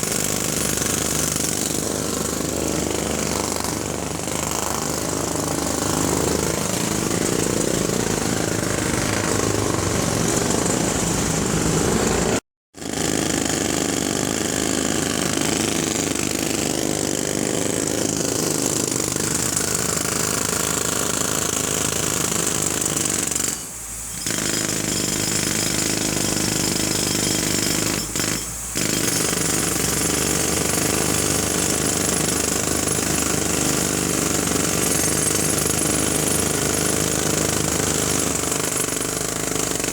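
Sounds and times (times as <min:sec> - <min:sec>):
jackhammer hammering: 0:00.0 - 0:39.9.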